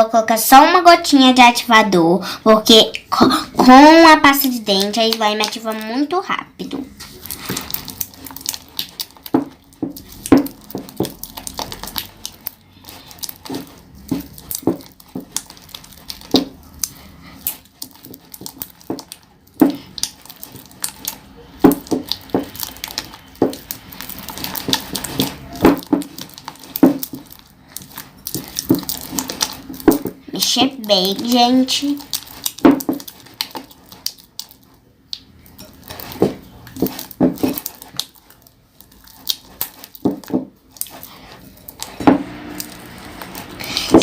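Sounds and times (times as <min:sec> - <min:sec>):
spoon stirring slime in a pot: 0:02.5 - 0:44.0.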